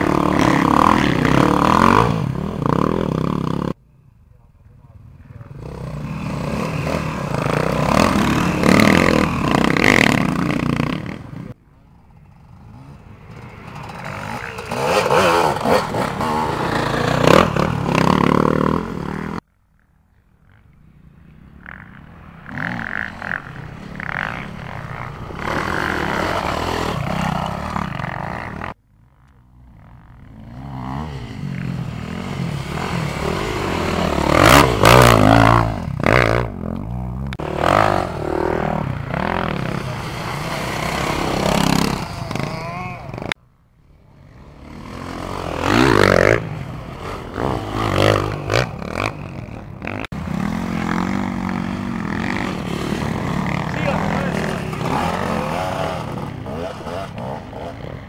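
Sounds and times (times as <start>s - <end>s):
dirt bike engines revving: 0.0s - 19.4s, 20.1s - 58.0s.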